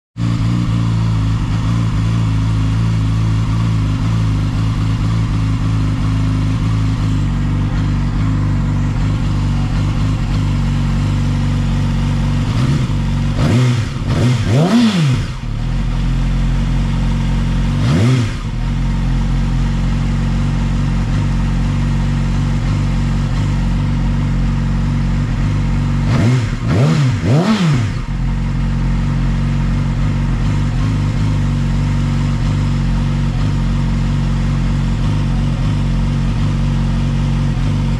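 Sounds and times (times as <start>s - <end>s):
motorcycle engine idling and revving: 0.2s - 37.9s.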